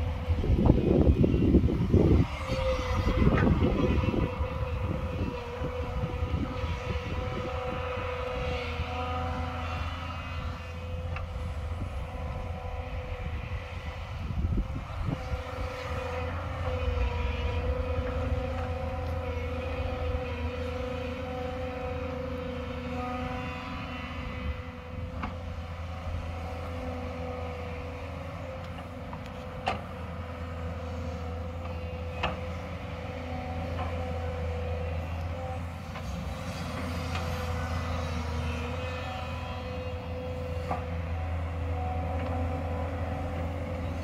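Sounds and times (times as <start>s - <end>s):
excavator diesel engine droning: 0.0s - 44.0s.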